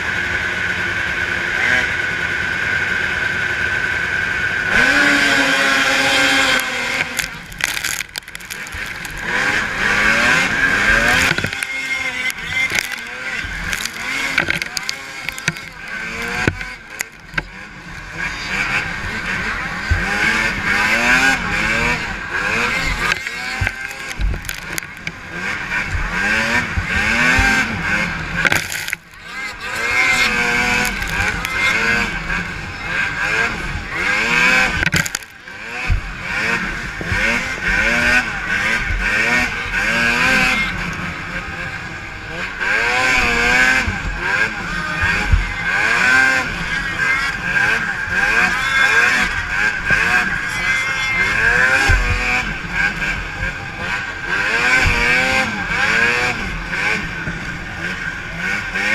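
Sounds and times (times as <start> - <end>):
snowmobile engines revving: 0.0 - 58.9.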